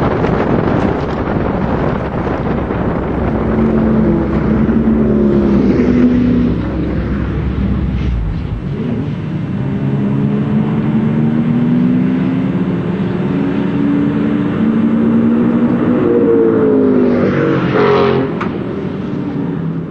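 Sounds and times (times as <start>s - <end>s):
race car engine accelerating: 0.1s - 19.6s.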